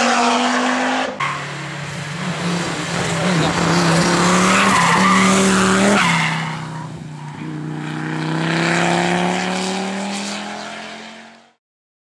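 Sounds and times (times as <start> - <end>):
car engine accelerating hard: 0.0 - 11.6.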